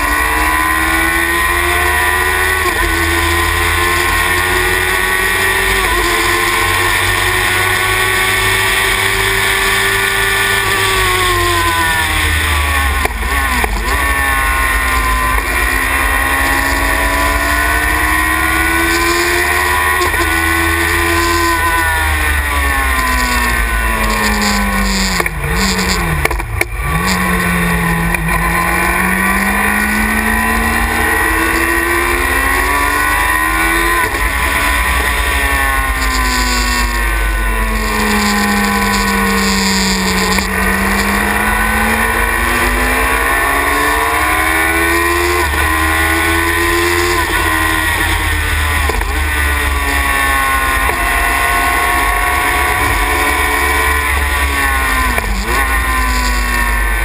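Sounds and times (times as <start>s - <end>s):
racing car engine revving: 0.0s - 57.0s
wind and road noise: 0.0s - 57.0s.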